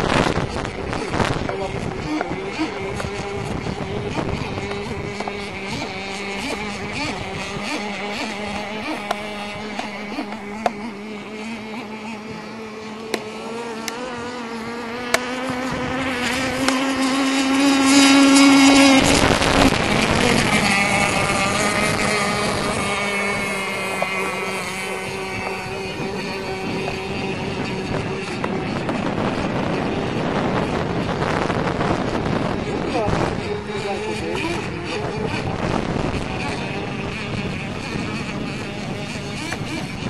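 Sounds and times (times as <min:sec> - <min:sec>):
model boat motor whining: 0:00.0 - 0:40.0.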